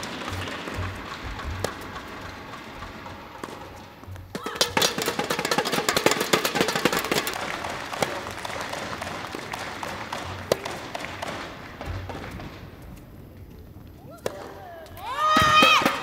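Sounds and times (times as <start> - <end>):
racket striking ball: 0.0 - 12.5, 14.2 - 14.6
spectators clapping: 0.0 - 13.0.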